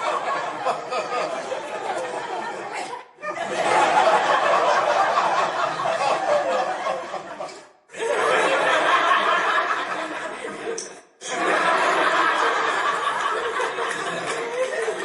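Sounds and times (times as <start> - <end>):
canned crowd laughter: 0.0 - 15.0.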